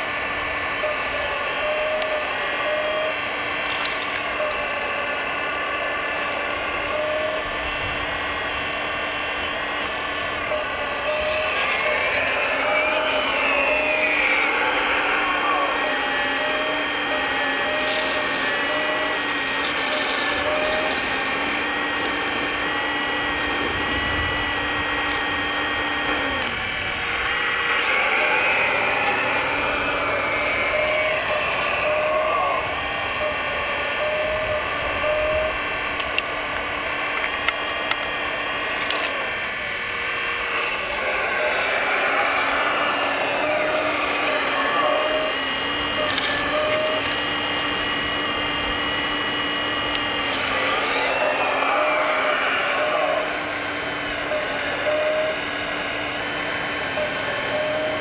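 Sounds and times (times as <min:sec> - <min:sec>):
electric motors whining: 0:00.0 - 0:58.0.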